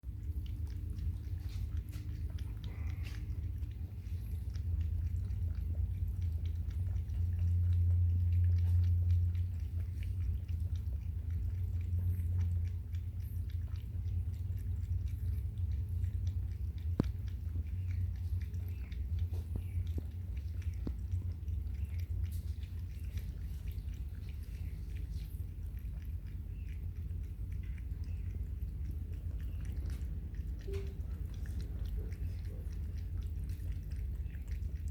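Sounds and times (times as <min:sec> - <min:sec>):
cat lapping water: 0:00.0 - 0:34.9
steady low hum: 0:00.0 - 0:34.9.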